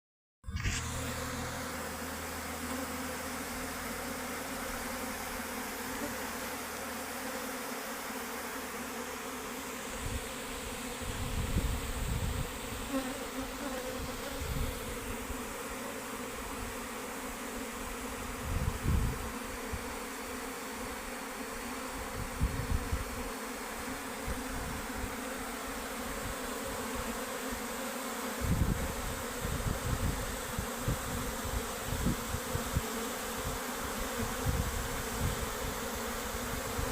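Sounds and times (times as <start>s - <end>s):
honeybees buzzing: 0.5s - 36.9s.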